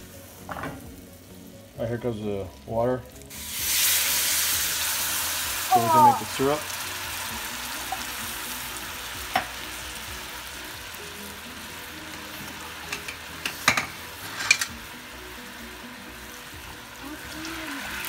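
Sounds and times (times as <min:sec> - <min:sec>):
syrup sizzling in a pan: 0:00.0 - 0:18.0.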